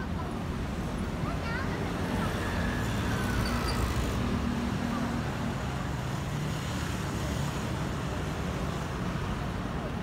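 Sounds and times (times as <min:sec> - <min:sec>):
city traffic hum: 0:00.0 - 0:10.0
faint voices of passers-by: 0:00.0 - 0:10.0.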